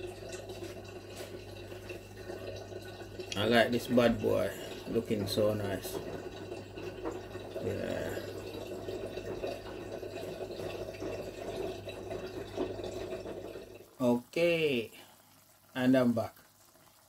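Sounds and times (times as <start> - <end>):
low electric hum: 0.0 - 15.1
pot bubbling under lid: 0.0 - 15.7, 16.4 - 17.0.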